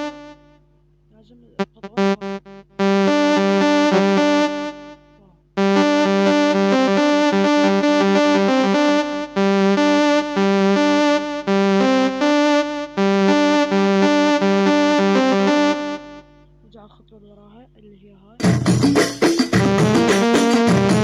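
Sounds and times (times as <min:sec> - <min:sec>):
synth keyboard melody: 0:00.0 - 0:00.5, 0:01.6 - 0:16.4, 0:18.4 - 0:21.0.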